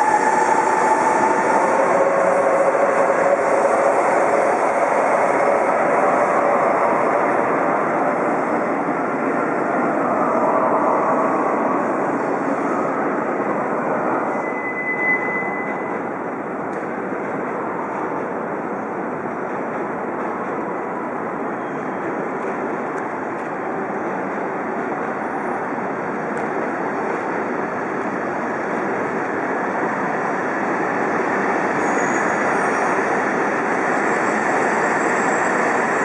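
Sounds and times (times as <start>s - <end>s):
train rushing on tracks: 0.0s - 36.0s.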